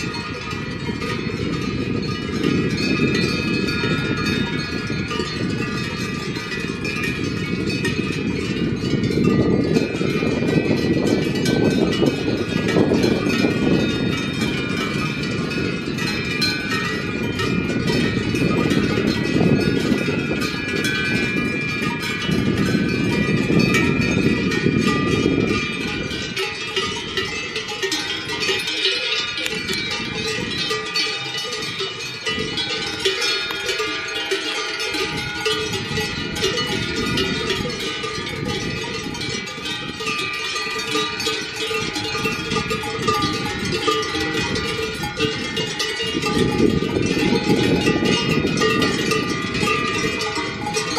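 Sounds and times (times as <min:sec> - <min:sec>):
cowbells clanking: 0:00.0 - 0:50.9.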